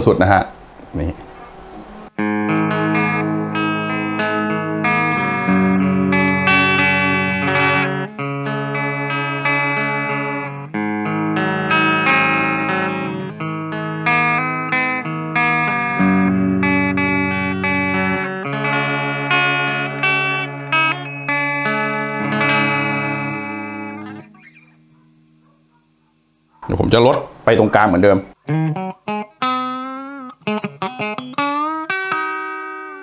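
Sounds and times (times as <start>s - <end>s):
electric guitar strummed chords: 0.0s - 24.4s, 28.6s - 33.0s.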